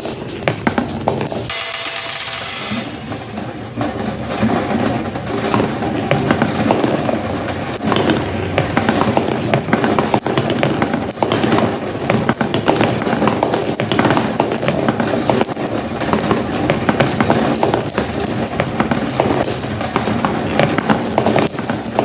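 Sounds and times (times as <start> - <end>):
marbles rolling on a track: 0.0 - 22.0
marbles clicking: 3.8 - 22.0.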